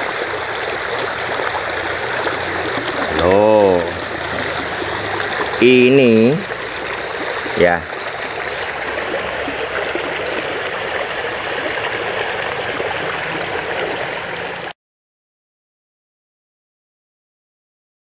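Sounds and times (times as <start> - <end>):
river water rushing: 0.0 - 14.7.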